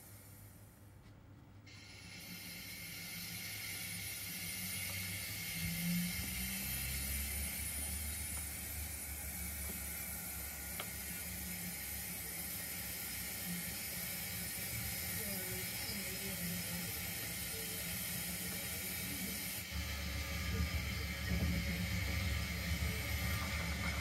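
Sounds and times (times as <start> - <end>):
model locomotive motor whirring: 0.0 - 0.5, 1.7 - 24.0
steady hiss: 0.0 - 0.8, 1.7 - 24.0.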